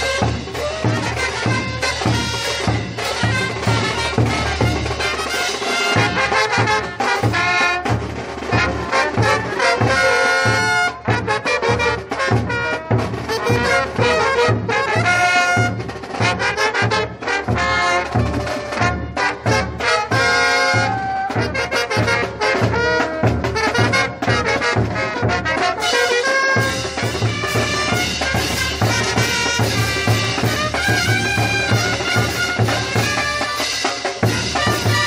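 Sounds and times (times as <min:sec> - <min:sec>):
brass horns playing tune: 0:00.0 - 0:35.0
drums and cymbals beat: 0:00.0 - 0:35.0.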